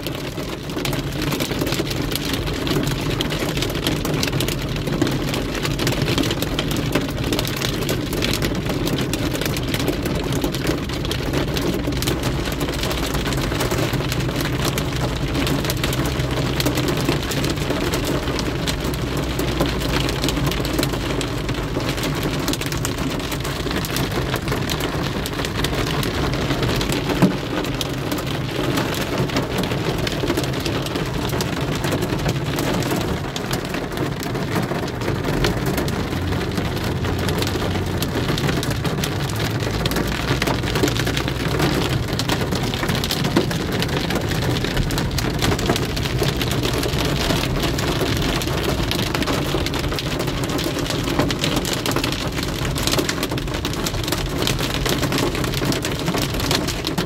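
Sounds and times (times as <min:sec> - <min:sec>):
heavy rain on car roof: 0:00.0 - 0:57.0
low car rumble: 0:00.0 - 0:57.0.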